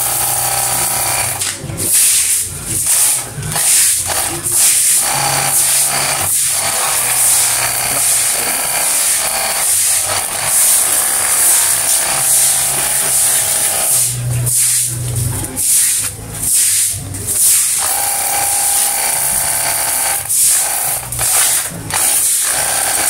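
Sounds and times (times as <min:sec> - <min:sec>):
pressure washer spray hissing: 0:00.0 - 0:15.0, 0:15.6 - 0:19.3, 0:20.1 - 0:23.0
pump motor hum: 0:00.0 - 0:23.0.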